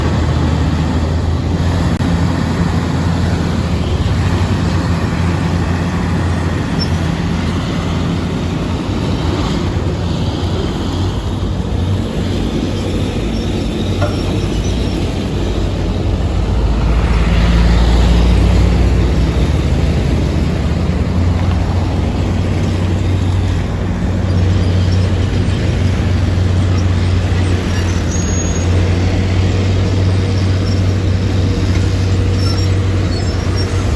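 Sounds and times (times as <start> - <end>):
heavy diesel machinery droning: 0.0 - 33.9.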